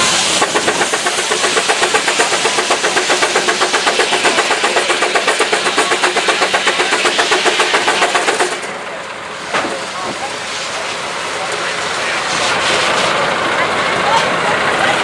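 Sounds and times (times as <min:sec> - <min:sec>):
steam engine exhaust beating: 0:00.0 - 0:15.0.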